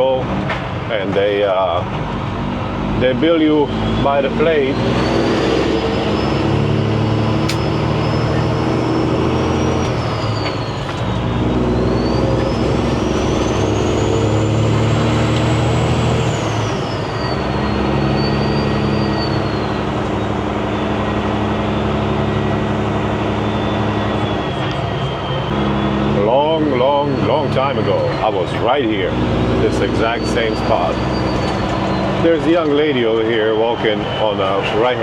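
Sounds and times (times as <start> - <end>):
diesel truck engine under load: 0.0 - 35.0
turbocharger whistle: 2.7 - 35.0.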